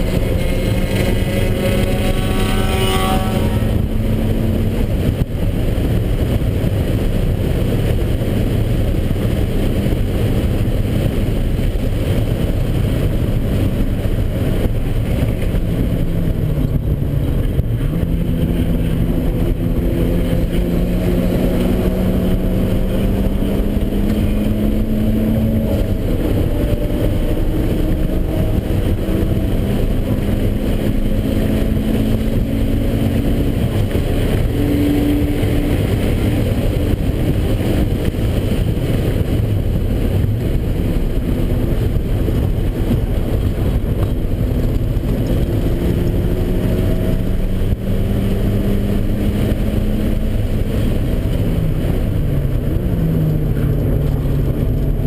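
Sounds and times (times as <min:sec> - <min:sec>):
car engine running hard: 0:00.0 - 0:55.0
wind and road noise: 0:00.0 - 0:55.0.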